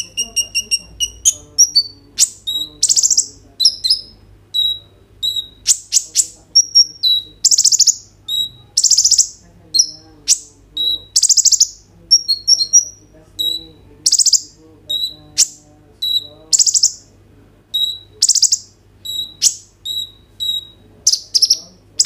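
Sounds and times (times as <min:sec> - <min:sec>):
sunbird singing: 0:00.0 - 0:17.1, 0:17.7 - 0:22.0.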